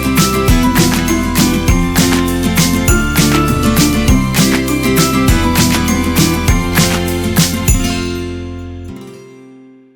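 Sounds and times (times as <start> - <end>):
upbeat instrumental music: 0.0 - 9.0.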